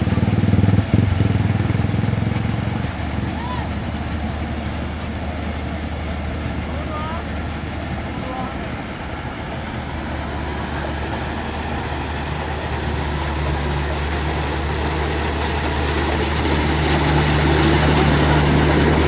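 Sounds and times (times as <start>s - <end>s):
harvester diesel engine humming: 0.0s - 19.0s.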